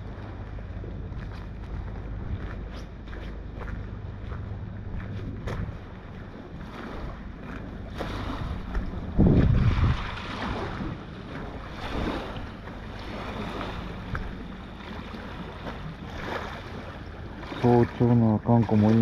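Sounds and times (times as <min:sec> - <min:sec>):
boat engine humming: 0:00.0 - 0:19.0
wind buffeting microphone: 0:00.0 - 0:19.0.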